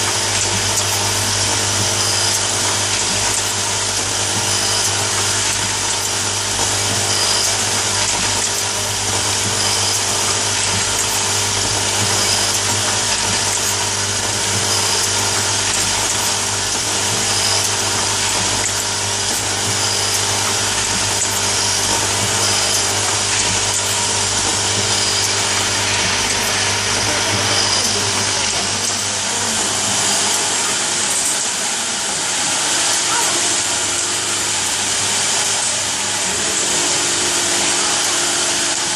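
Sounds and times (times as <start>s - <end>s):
machine humming and hissing: 0.0s - 38.9s.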